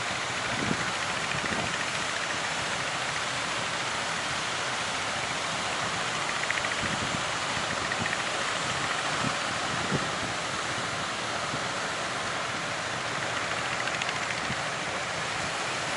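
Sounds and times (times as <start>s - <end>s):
strong wind: 0.0s - 15.9s
surf rushing: 0.0s - 15.9s.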